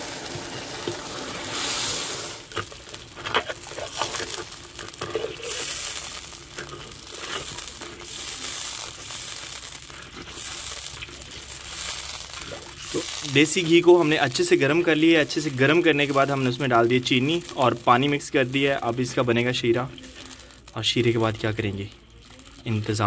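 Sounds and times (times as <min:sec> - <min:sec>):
syrup sizzling in hot fat: 0:00.0 - 0:23.0.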